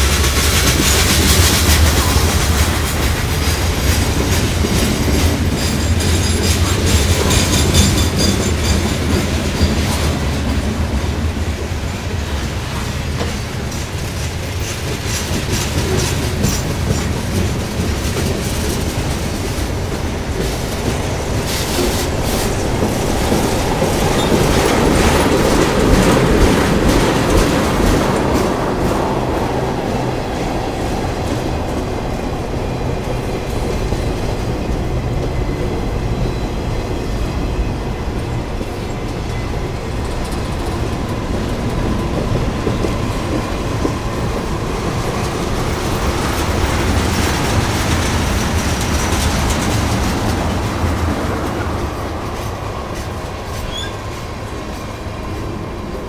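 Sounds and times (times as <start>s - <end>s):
clacking over rail joints: 0.0s - 56.0s
train wheels rumbling on rail: 0.0s - 56.0s.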